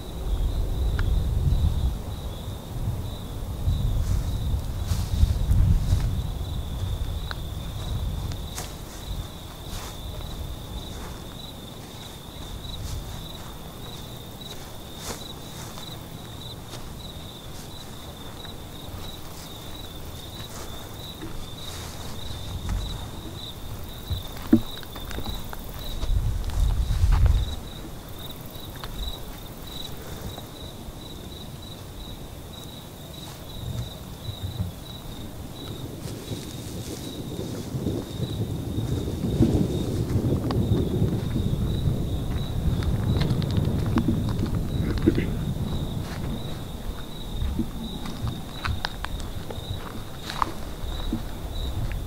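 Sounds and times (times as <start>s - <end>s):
crickets chirring: 0.0s - 52.0s
footsteps in grass: 3.8s - 52.0s.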